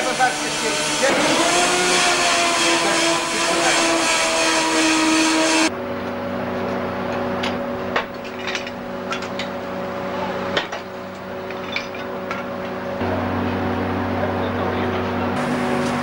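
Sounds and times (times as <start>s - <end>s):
machine hum: 0.0s - 16.0s
molten iron pouring roar: 0.0s - 16.0s.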